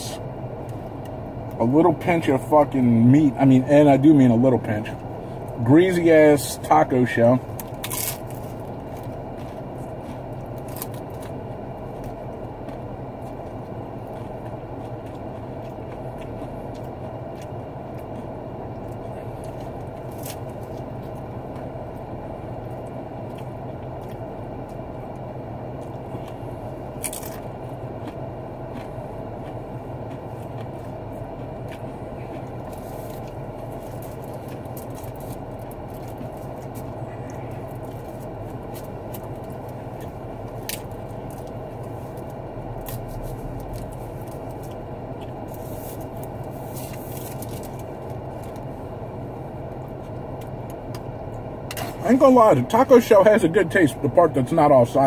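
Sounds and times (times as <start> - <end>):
car interior hum: 0.0 - 55.0
crunching taco shell: 7.4 - 52.0.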